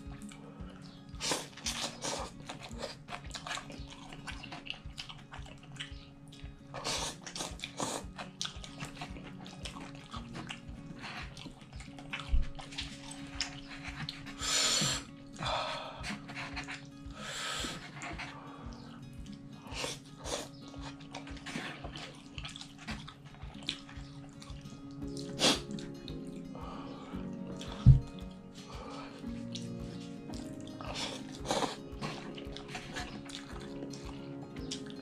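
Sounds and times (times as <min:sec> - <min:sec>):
chewing and mouth clicks: 0:00.1 - 0:35.0.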